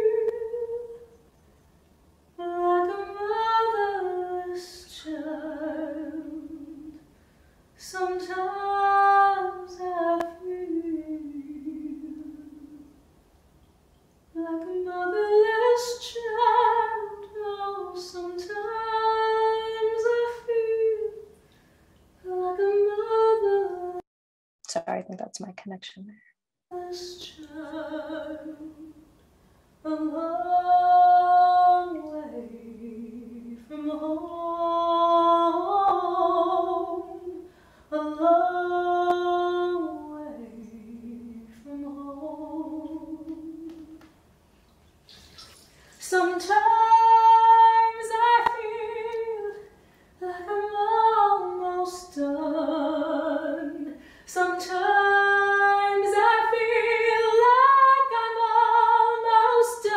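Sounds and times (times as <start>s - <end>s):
woman singing with vibrato: 0.0s - 1.1s, 2.4s - 7.0s, 7.8s - 12.9s, 14.4s - 21.3s, 22.2s - 24.0s, 26.7s - 29.1s, 29.8s - 44.1s, 46.0s - 59.9s.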